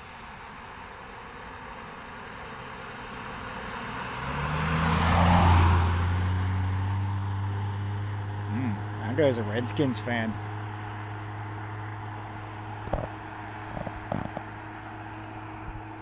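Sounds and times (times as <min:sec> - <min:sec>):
vehicle passing by: 0:01.3 - 0:16.0.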